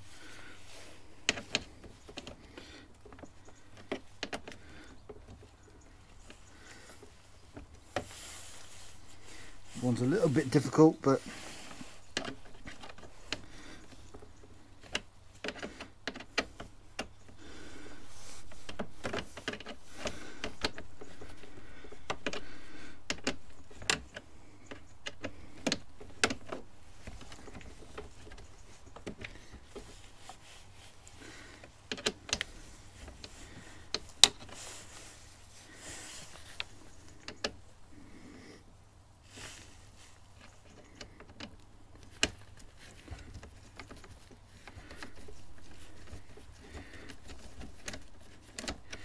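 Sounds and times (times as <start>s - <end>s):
soft rustling: 0.0s - 49.0s
light metallic rattles of screws: 0.2s - 38.1s, 39.5s - 49.0s
small clicks of hand tools: 1.2s - 8.2s, 11.7s - 30.4s, 31.1s - 35.0s, 35.7s - 37.7s, 39.5s - 49.0s.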